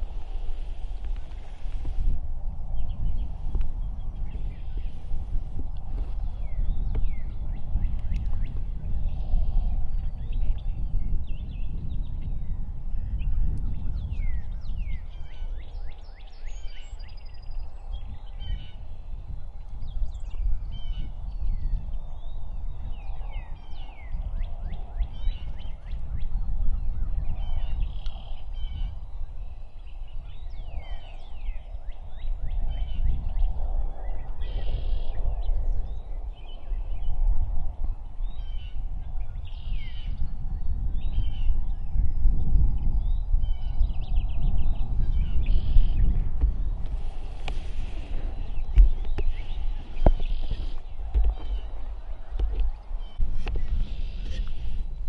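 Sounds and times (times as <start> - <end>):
songbirds singing: 0.0 - 55.0
wind rumble on microphone: 0.0 - 55.0.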